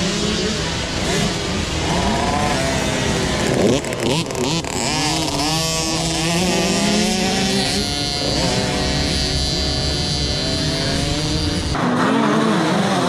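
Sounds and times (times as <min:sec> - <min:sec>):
motocross bike engines buzzing: 0:00.0 - 0:13.0.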